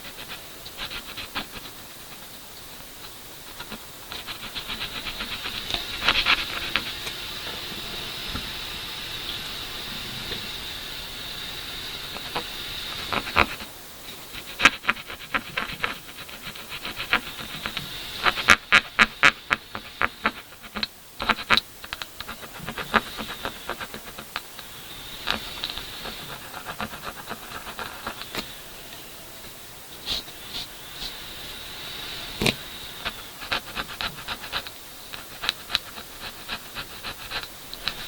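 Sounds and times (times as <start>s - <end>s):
tool scraping paint on canvas: 0.0s - 28.8s, 30.0s - 38.0s
faint steady hiss: 0.0s - 38.0s.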